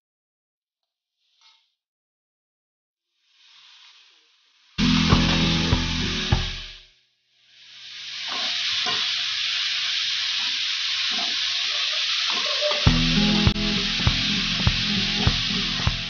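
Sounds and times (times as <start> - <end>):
beans sizzling in a pan: 3.1 - 16.0.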